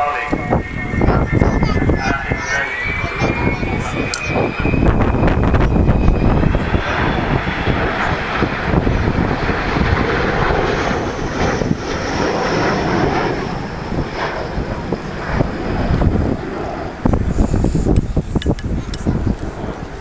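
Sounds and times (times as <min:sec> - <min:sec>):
loud jet roar: 0:00.0 - 0:20.0.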